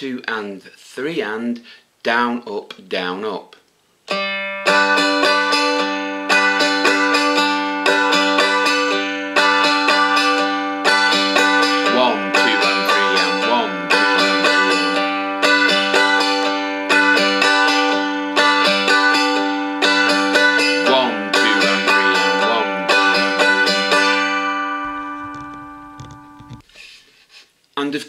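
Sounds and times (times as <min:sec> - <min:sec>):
dulcimer strummed in waltz rhythm: 0:04.1 - 0:26.6.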